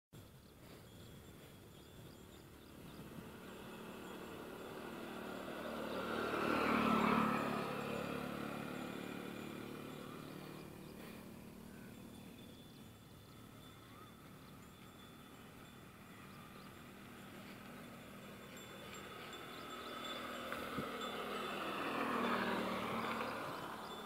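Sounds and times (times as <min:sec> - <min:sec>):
motor vehicle passing by: 0:02.1 - 0:24.0.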